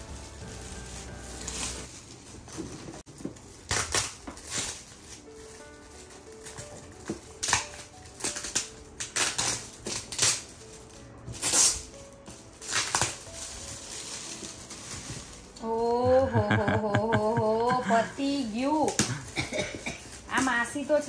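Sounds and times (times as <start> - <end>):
packaging tearing and crinkling: 0.0 - 15.6, 18.4 - 21.0.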